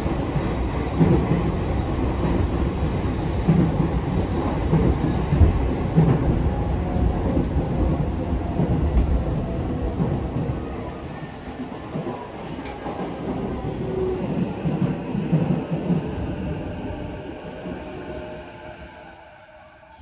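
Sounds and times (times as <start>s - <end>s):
train wheels rumbling on rail: 0.0s - 18.6s.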